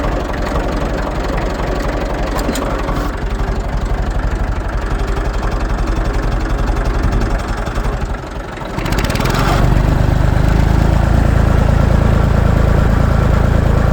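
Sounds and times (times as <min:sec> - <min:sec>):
tractor engine idling: 0:00.0 - 0:13.9.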